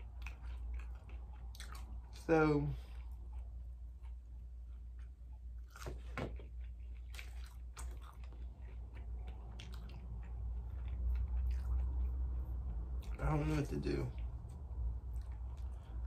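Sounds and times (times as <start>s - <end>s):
person chewing fried food: 0.0s - 16.0s.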